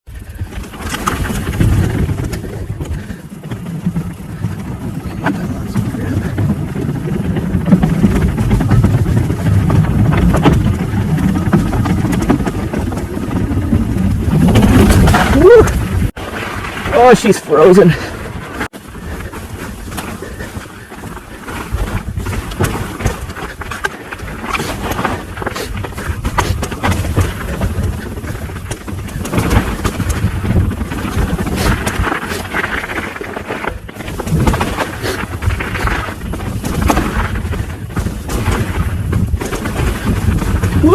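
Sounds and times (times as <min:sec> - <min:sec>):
wind buffeting microphone: 0:00.1 - 0:17.1, 0:17.9 - 0:40.9
bike clicks and rattles: 0:00.1 - 0:40.9
tyres rolling over dirt: 0:00.1 - 0:40.9.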